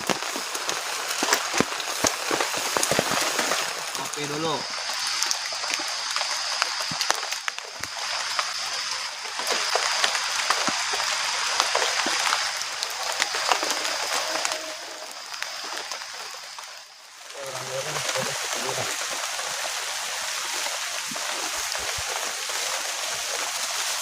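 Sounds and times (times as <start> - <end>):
rain falling: 0.0 - 24.0
raindrops hitting close by: 0.0 - 24.0.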